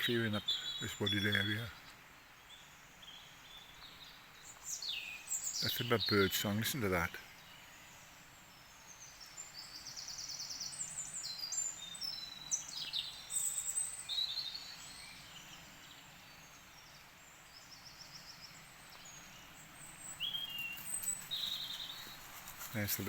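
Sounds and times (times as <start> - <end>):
wild birds singing: 0.0 - 23.0.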